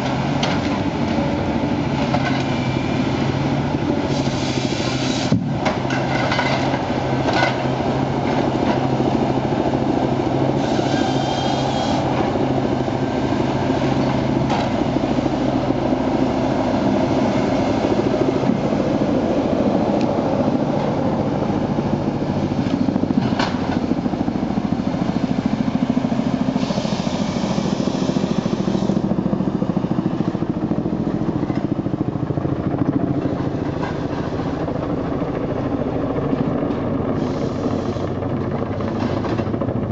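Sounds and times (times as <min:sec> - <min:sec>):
diesel engine and hydraulics under load: 0:00.0 - 0:31.8, 0:36.7 - 0:39.6.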